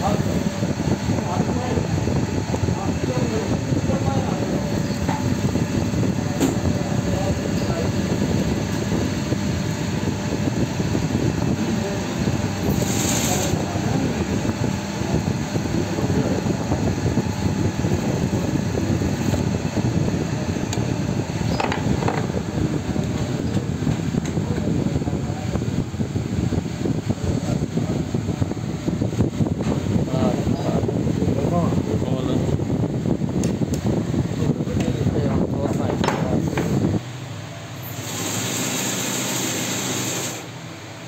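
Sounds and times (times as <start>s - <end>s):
loud mechanical rumble: 0.0s - 41.0s.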